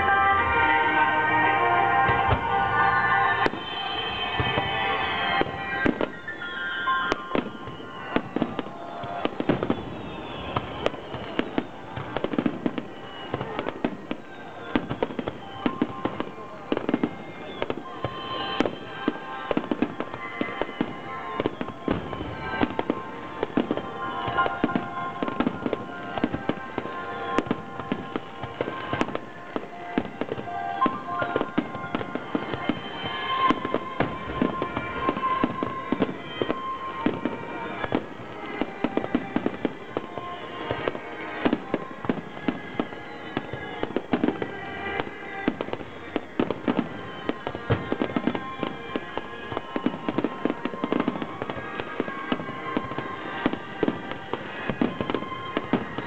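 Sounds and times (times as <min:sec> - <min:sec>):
fireworks bursting: 0:00.0 - 0:56.0
music: 0:00.0 - 0:56.0.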